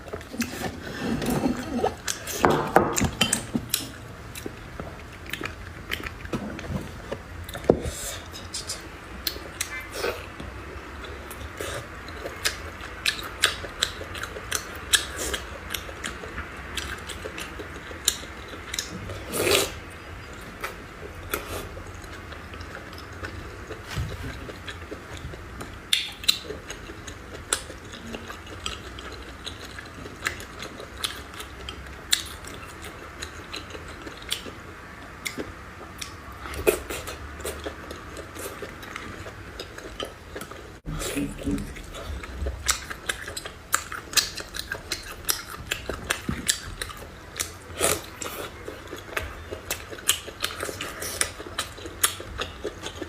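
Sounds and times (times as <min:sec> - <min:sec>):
chewing and biting food: 0:00.0 - 0:53.0.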